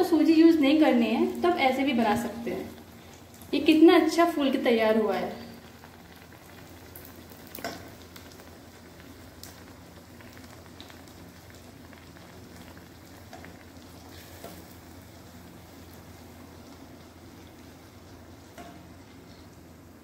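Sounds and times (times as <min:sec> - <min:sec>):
batter sizzling in hot fat: 0:00.1 - 0:20.0.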